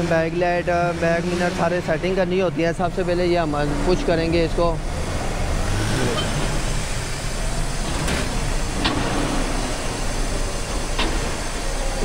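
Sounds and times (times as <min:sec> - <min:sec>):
factory din: 0:00.0 - 0:12.0.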